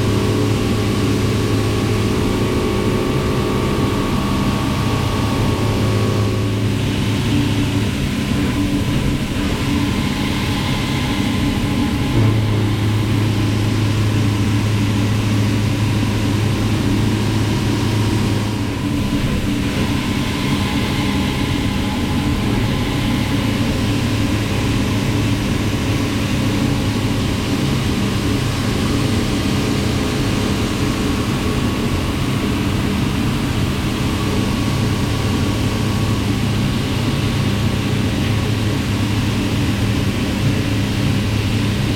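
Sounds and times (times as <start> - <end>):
machining centre mechanical hum: 0.0 - 41.9.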